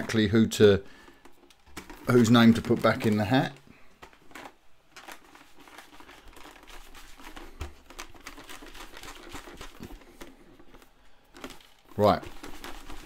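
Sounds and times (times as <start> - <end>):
paper slips rustling in plastic helmet: 0.0 - 13.0.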